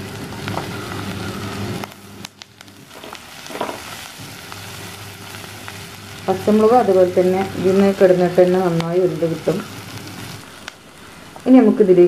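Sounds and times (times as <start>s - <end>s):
onions sizzling in hot oil: 0.0s - 12.0s
steady low hum: 0.0s - 12.0s.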